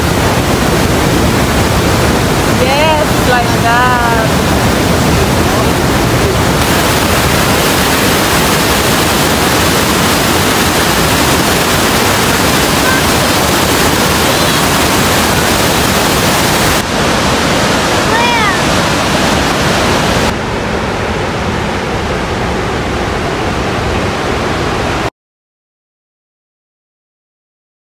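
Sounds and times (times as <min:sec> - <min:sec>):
waterfall rushing: 0:00.0 - 0:25.1.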